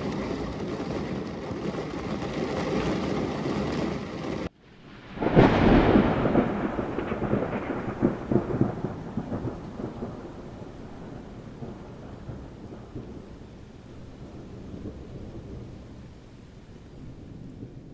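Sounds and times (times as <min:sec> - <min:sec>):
thunder clap with rumbles: 0:00.0 - 0:04.5, 0:05.1 - 0:16.2
steady rain: 0:00.0 - 0:17.9.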